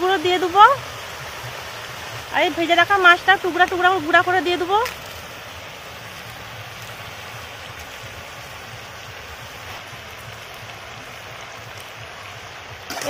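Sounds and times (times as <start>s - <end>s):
vegetables frying in a wok: 0.0s - 13.0s.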